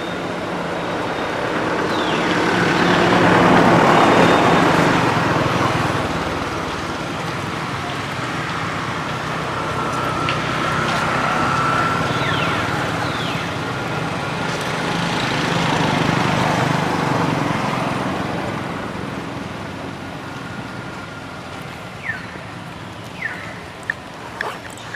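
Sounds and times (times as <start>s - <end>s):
motor vehicle running: 0.0s - 24.9s.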